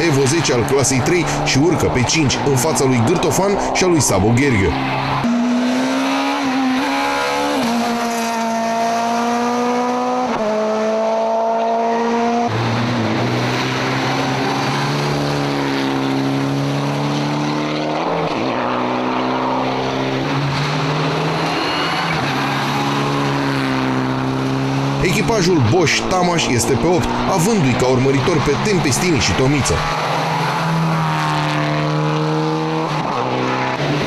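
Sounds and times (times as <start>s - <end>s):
rally car engine at full throttle: 0.0s - 34.0s.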